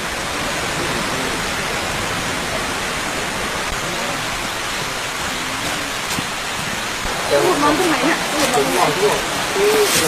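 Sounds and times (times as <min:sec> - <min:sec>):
fast-flowing stream rushing: 0:00.0 - 0:10.0.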